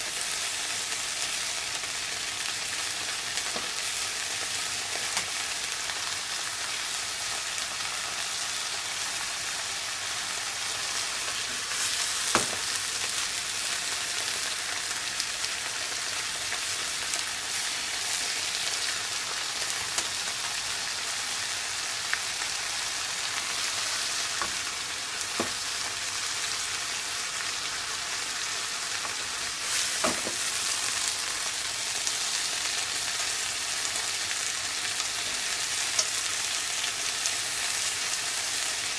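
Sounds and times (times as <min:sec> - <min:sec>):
cabbage sizzling in a pan: 0:00.0 - 0:38.9.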